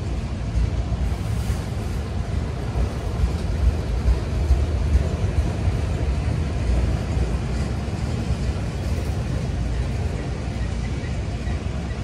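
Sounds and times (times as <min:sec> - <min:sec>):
freight cars rolling on rails: 0:00.0 - 0:12.0.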